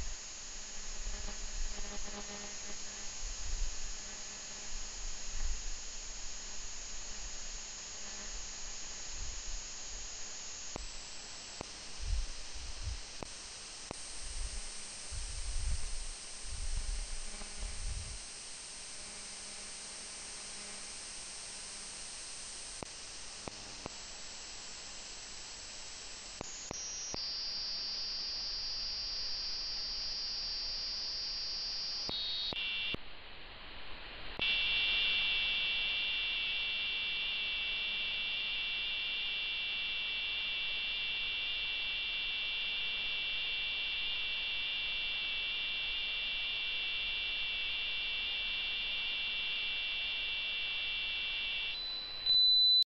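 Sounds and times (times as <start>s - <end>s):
radio static hiss: 0.0s - 33.0s, 33.8s - 52.2s
steady high buzzing tones: 0.0s - 33.0s, 34.0s - 52.8s.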